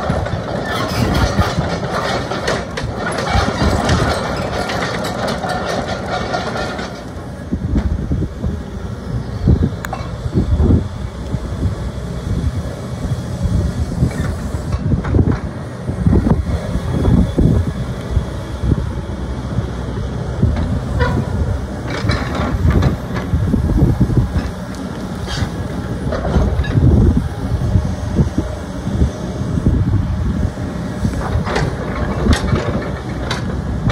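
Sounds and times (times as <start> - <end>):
diesel engine running: 0.0 - 33.9
excavator clanks and rattles: 0.0 - 33.9.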